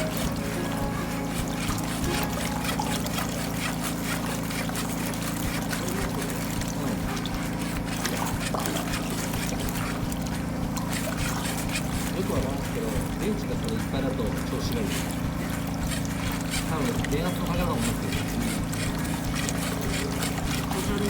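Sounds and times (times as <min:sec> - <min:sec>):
drain-jetting machine engine drone: 0:00.0 - 0:21.0
water hissing and crackling: 0:00.0 - 0:21.0.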